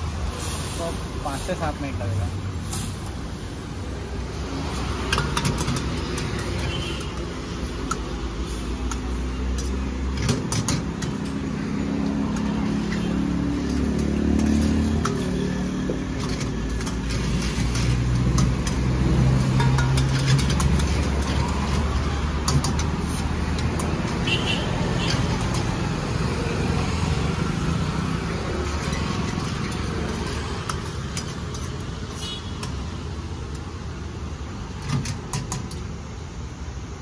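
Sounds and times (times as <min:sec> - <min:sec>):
passing vehicle engines: 0:00.0 - 0:33.6
steady low traffic rumble: 0:00.0 - 0:37.0.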